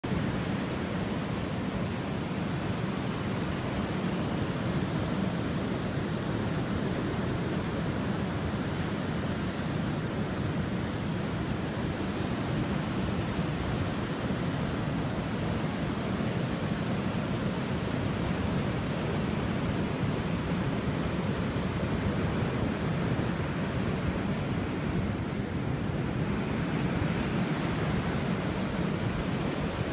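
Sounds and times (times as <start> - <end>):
ocean surf breaking on beach: 0.0 - 29.9.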